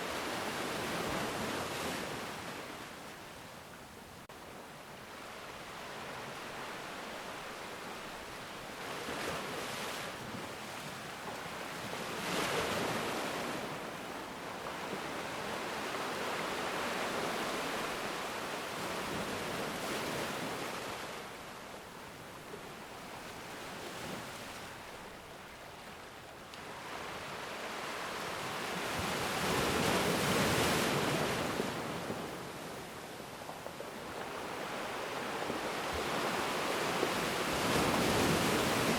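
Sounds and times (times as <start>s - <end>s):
ocean waves breaking on beach: 0.0s - 3.8s, 4.4s - 38.9s.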